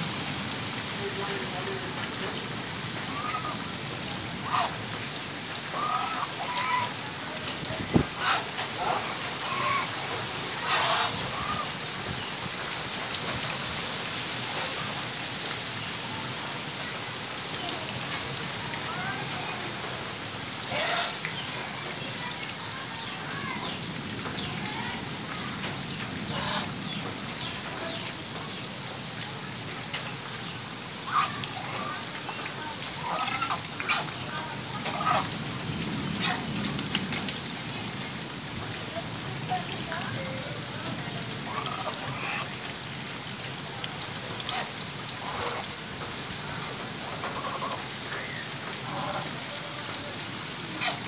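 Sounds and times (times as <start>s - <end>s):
rain falling on puddle: 0.0s - 51.0s.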